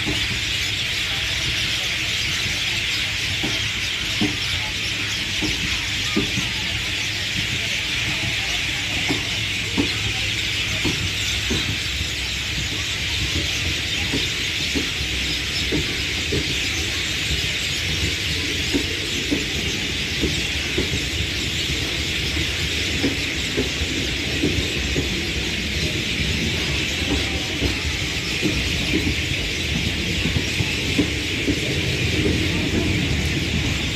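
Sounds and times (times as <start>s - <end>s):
train rumble: 0.0s - 33.9s
train wheels clacking over joints: 0.0s - 33.9s.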